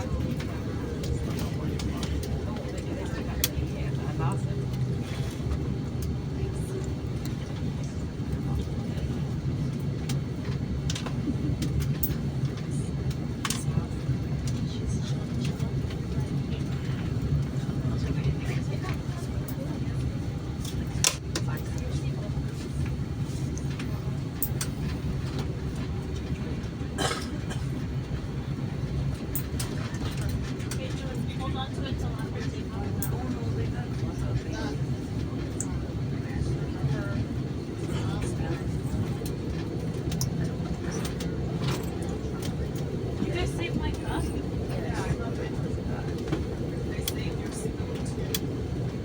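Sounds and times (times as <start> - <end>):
airliner cabin rumble: 0.0 - 49.0.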